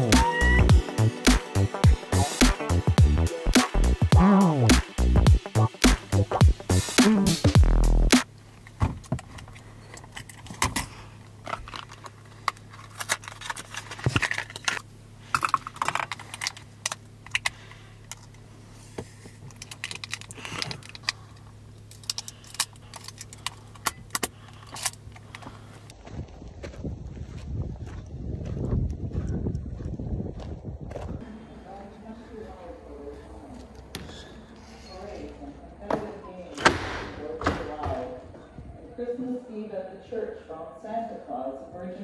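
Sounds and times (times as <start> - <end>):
steady low hum: 0.0 - 36.6.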